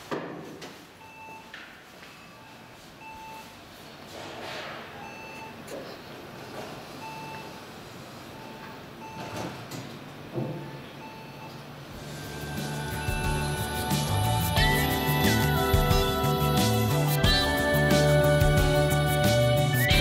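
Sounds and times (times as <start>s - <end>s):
room noise hum: 0.0s - 20.0s.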